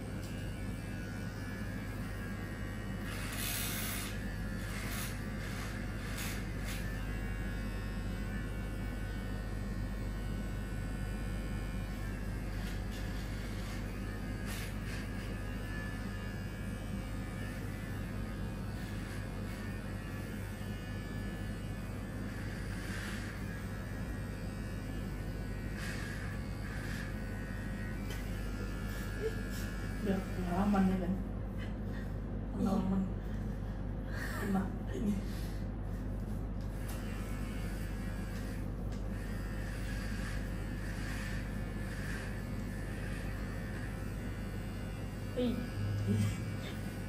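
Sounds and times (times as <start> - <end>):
electric hair clippers humming: 0.0 - 31.2, 36.6 - 47.0.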